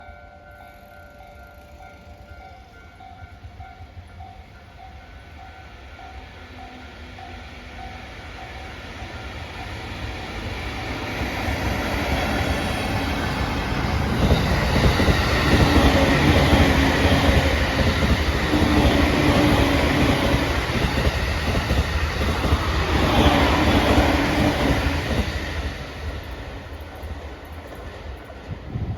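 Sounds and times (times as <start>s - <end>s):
electric locomotive passing: 0.0s - 28.9s.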